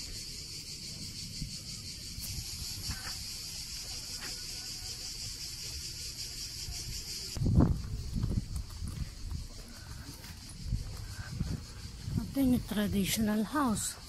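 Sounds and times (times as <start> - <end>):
cicadas chorus: 0.0 - 14.0.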